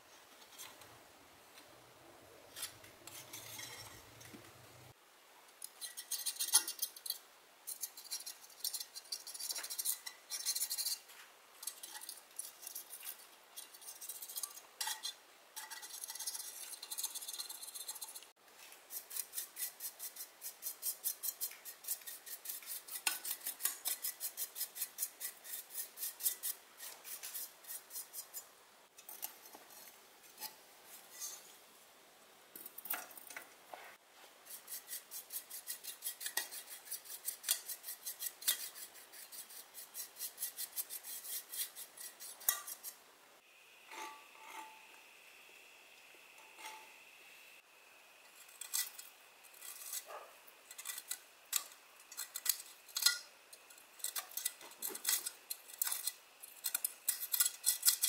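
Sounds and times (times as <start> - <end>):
metal tool scraping metal: 2.5 - 4.3, 5.7 - 31.5, 34.5 - 43.0, 43.9 - 45.0, 46.4 - 47.0, 48.2 - 58.0.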